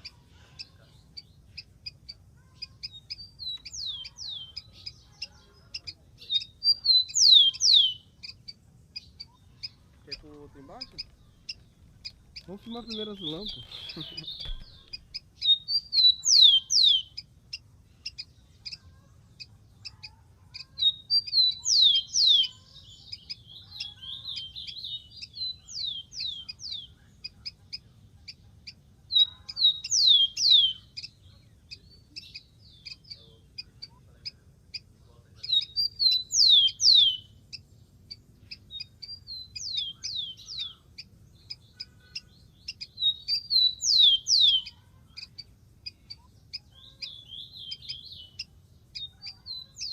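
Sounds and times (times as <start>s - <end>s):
bird chips: 0.0s - 49.9s
sparrow singing: 0.0s - 49.9s.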